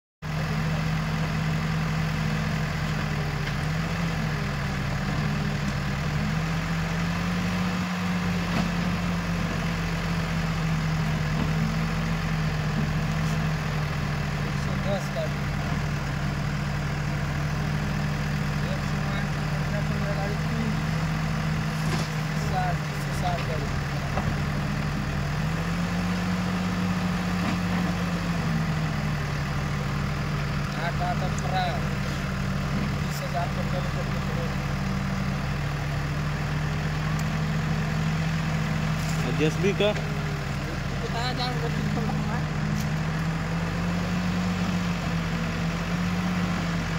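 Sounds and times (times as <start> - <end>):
diesel engines idling: 0.2 - 46.9.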